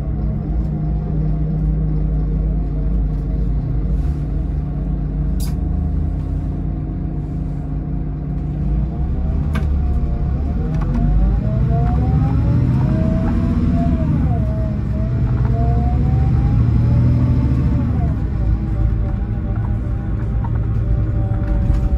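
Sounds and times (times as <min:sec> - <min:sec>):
diesel engine drone: 0:00.0 - 0:21.9
road rumble: 0:00.0 - 0:21.9.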